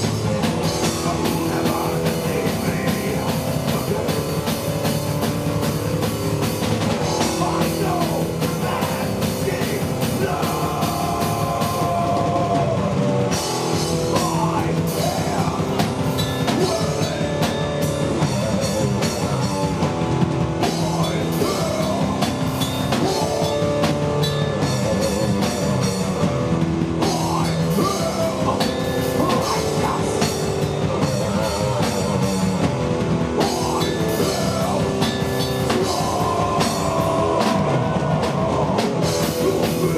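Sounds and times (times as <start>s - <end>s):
drum kit: 0.0s - 39.9s
electric guitar with bending notes: 0.0s - 39.9s.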